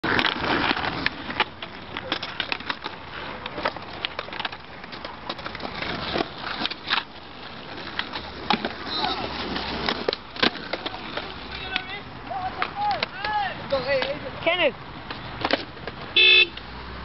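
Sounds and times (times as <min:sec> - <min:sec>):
skateboard decks clacking on road: 0:00.0 - 0:16.8
skateboards rolling on asphalt: 0:00.0 - 0:17.0.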